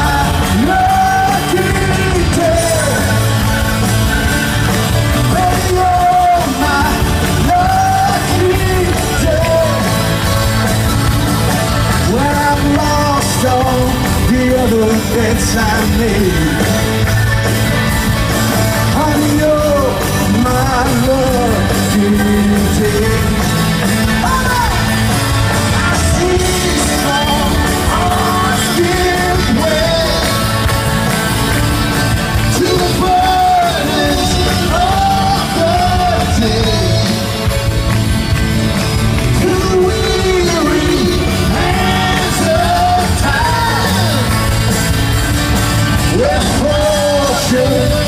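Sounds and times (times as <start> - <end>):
person singing: 0.0 - 3.8, 4.6 - 10.6, 11.8 - 16.9, 18.7 - 31.3, 32.2 - 37.7, 39.2 - 44.7, 45.9 - 48.0
live rock band playing: 0.0 - 48.0.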